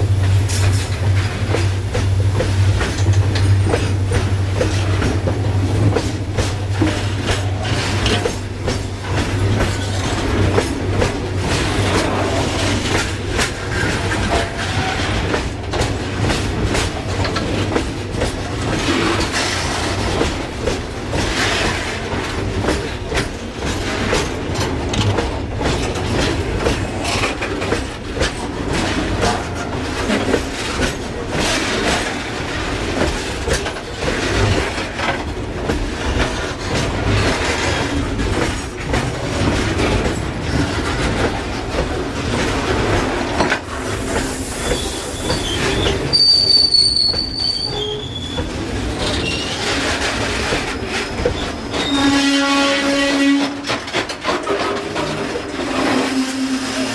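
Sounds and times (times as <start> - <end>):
train wheels rumbling on track: 0.0 - 56.9
wheels clanking over rail joints: 0.0 - 56.9.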